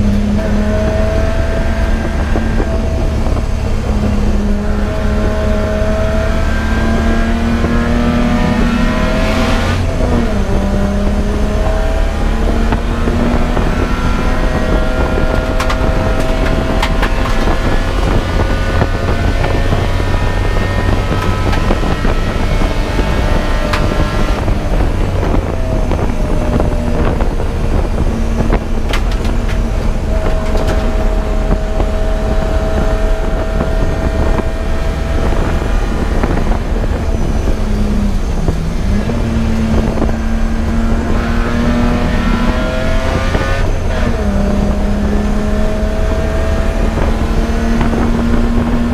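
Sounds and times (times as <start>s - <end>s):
race car engine at high revs: 0.0s - 48.9s.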